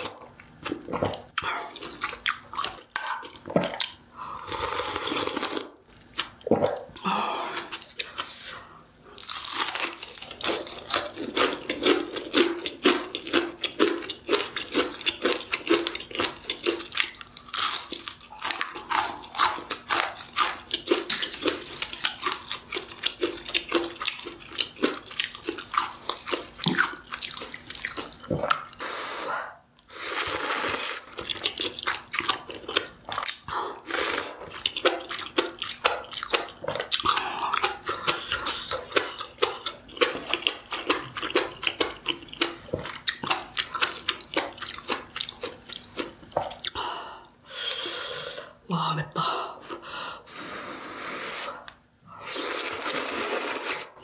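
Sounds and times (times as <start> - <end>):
person chewing crunchy food: 0.0 - 28.9, 29.9 - 48.6.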